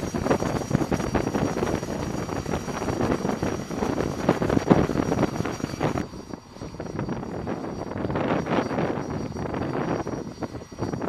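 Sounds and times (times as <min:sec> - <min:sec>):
faint high whine: 0:00.0 - 0:11.0
jet engine rushing: 0:00.0 - 0:11.0.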